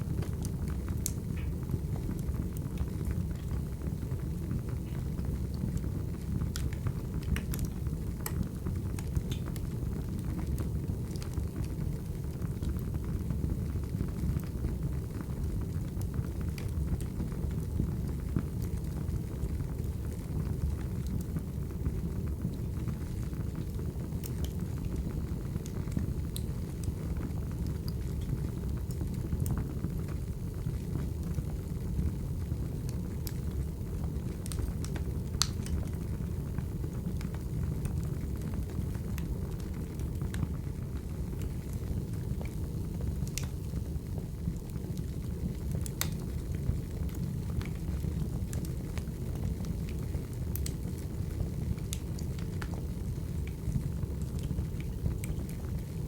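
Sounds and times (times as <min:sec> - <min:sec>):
wood fire rumbling: 0:00.0 - 0:56.0
logs crackling and popping: 0:00.2 - 0:56.0.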